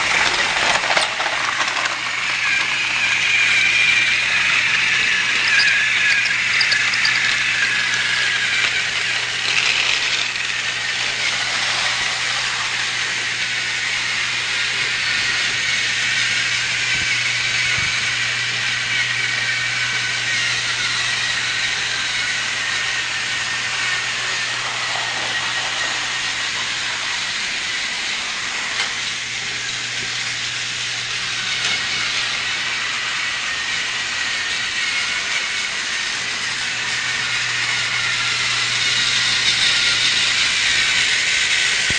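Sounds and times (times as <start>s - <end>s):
toy train motor whirring: 0.0s - 41.9s.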